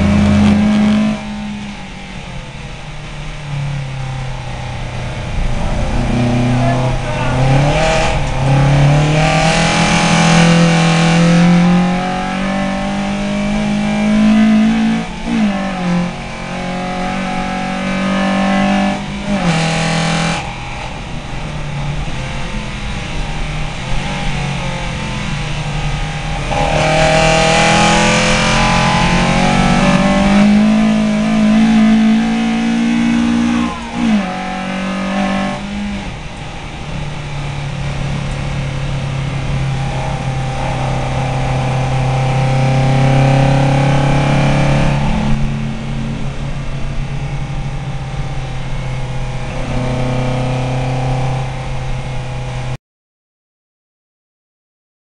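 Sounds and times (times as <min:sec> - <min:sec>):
race car engine at high revs: 0:00.0 - 0:52.8.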